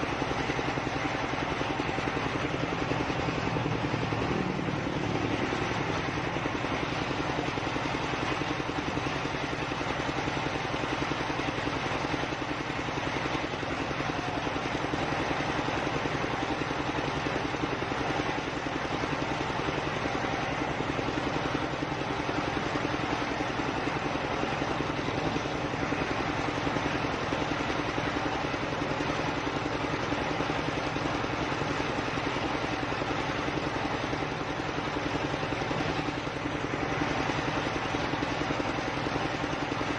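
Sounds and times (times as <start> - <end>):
circular saw and engine running: 0.0 - 39.9.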